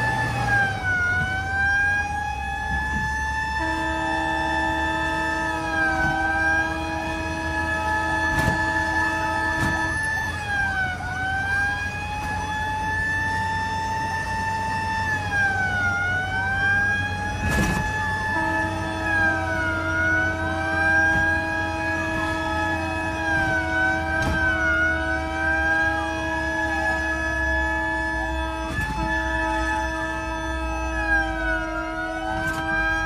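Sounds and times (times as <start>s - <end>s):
fire engine sirens wailing: 0.0s - 33.0s
multi-tone horn: 2.7s - 15.7s, 16.6s - 33.0s.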